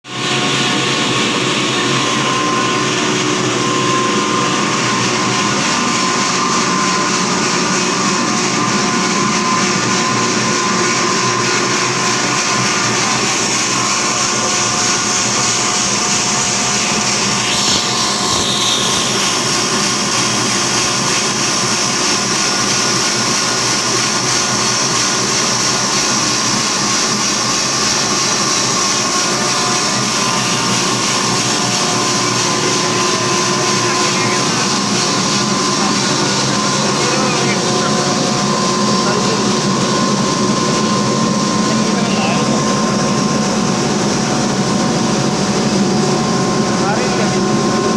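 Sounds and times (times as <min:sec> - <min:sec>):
feed grinder machine droning: 0:00.0 - 0:47.9.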